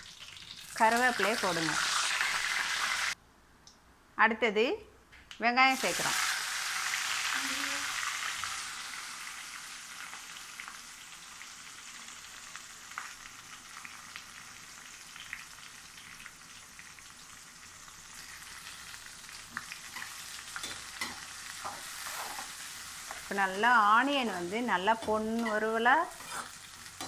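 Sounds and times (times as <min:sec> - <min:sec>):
onions sizzling in hot oil: 0:00.0 - 0:03.2, 0:05.7 - 0:27.0.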